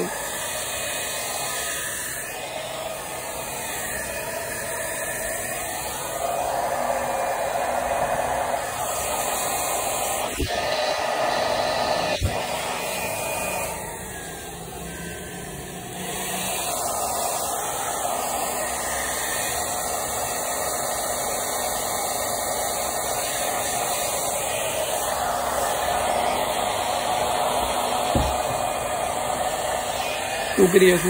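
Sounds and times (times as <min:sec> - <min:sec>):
hair dryer blowing: 0:00.0 - 0:31.0.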